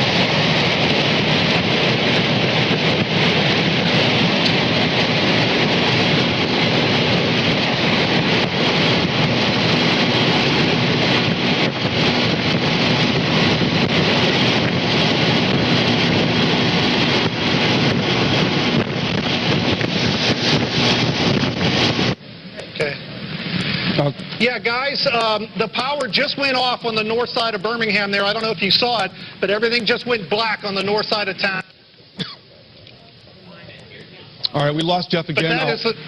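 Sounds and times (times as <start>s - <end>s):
strong wind blasting microphone: 0.0s - 34.4s.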